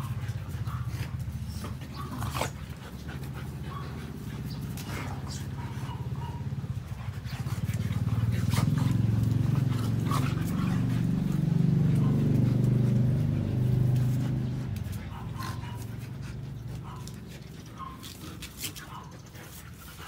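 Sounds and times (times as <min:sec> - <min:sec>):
dogs growling: 0:00.0 - 0:20.0.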